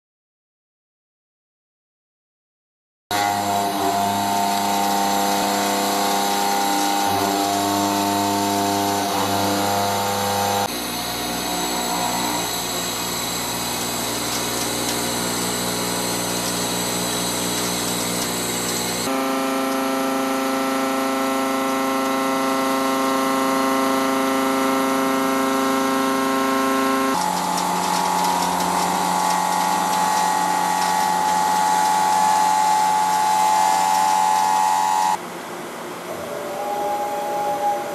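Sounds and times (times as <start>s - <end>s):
milling machine cutting steel: 3.1s - 35.2s.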